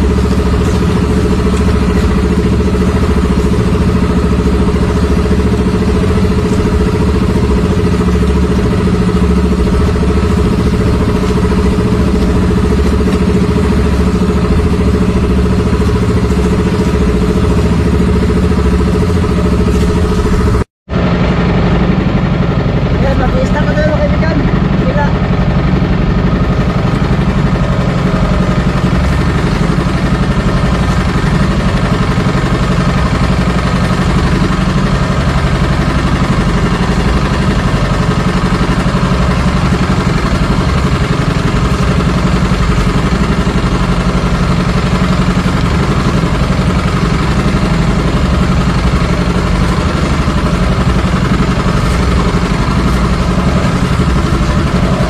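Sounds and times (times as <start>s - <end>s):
boat engine running steadily: 0.0s - 55.0s.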